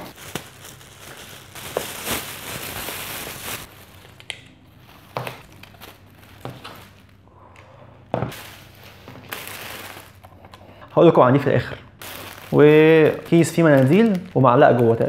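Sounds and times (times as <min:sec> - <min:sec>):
plastic bag rustling: 0:00.0 - 0:07.2, 0:08.3 - 0:10.5, 0:12.0 - 0:15.0.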